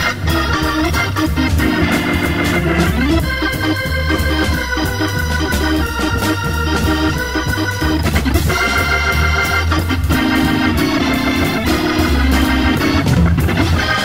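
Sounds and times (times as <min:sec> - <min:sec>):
bass line: 0:00.0 - 0:14.0
electric organ chords: 0:00.0 - 0:14.0.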